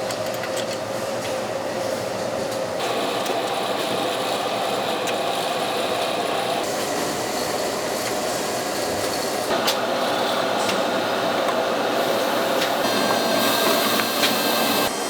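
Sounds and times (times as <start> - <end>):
factory machinery noise: 0.0 - 15.0.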